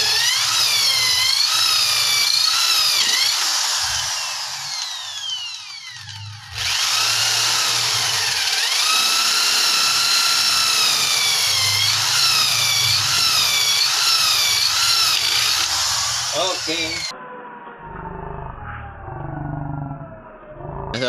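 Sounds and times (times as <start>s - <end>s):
electric drill cutting wood: 0.0s - 17.1s.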